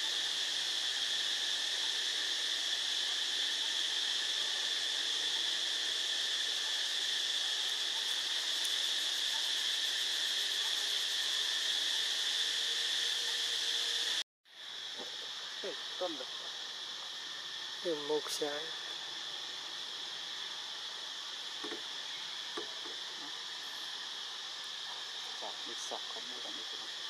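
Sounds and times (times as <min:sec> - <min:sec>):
insect chorus buzzing drone: 0:00.0 - 0:27.0.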